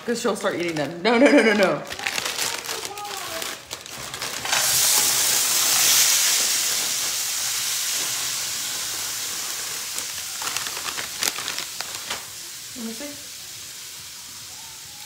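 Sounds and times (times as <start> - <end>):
hash browns sizzling in oil: 2.8 - 15.0.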